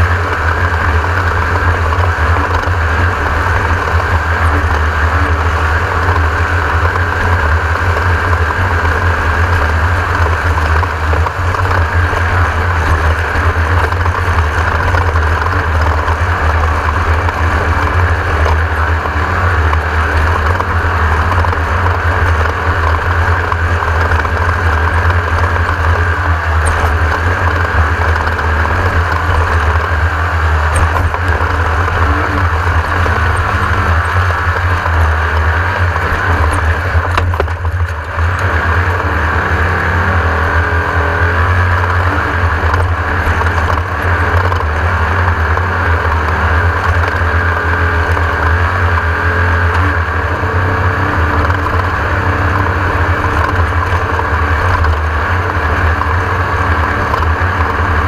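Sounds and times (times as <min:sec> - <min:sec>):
race car engine droning: 0:00.0 - 0:58.0
road noise: 0:00.0 - 0:58.0.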